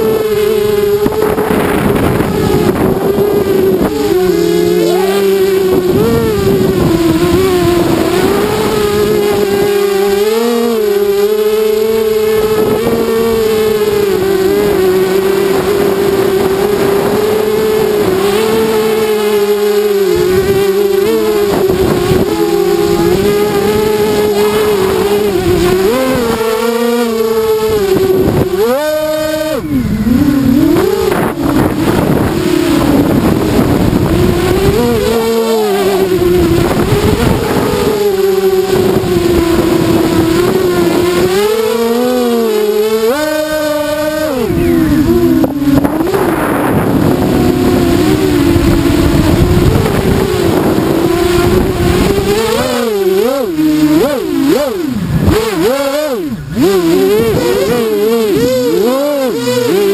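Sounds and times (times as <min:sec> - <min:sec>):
quadcopter motors whining: 0:00.0 - 0:59.9.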